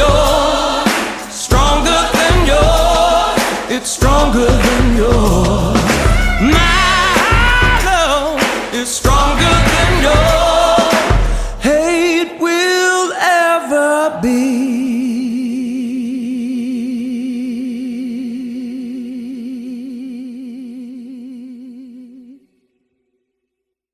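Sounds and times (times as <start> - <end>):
person singing with vibrato: 0.0 - 22.4.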